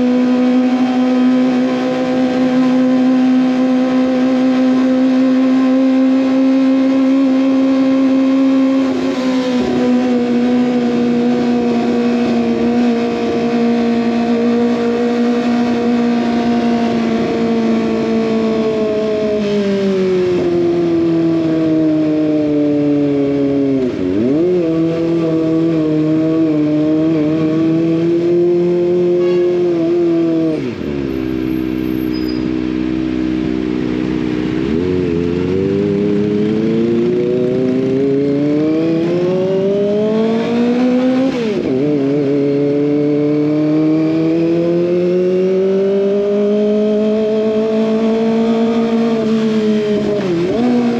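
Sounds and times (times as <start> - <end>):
motorcycle engine at high revs: 0.0 - 50.9.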